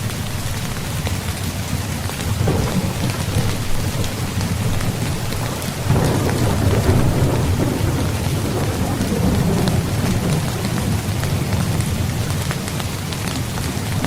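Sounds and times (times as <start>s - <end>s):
heavy rain: 0.0s - 14.0s
thunder rumbling: 1.7s - 14.0s.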